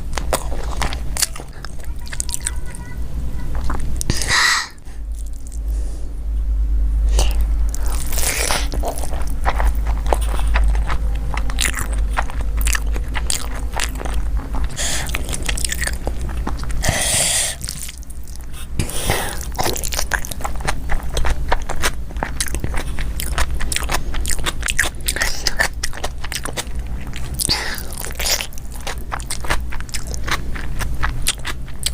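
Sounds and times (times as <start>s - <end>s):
person chewing with crisp crunches: 0.0s - 5.9s, 7.0s - 31.9s.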